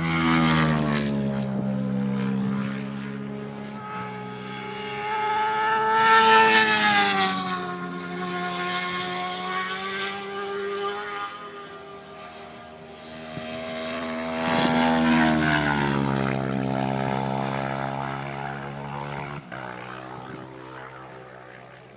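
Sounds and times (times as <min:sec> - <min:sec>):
motorcycle engines passing: 0:00.0 - 0:21.9.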